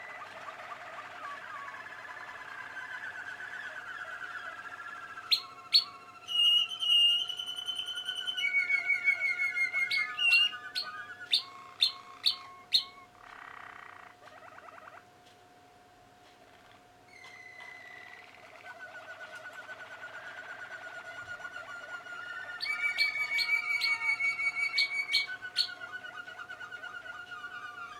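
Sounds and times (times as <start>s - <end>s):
canaries singing: 0.0s - 15.1s, 16.4s - 27.9s.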